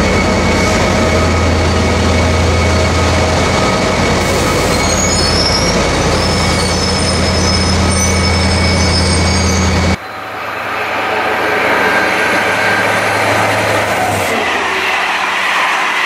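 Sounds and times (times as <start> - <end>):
diesel locomotive engine drone: 0.0 - 16.0
high-pitched wheel squeal: 0.1 - 16.0.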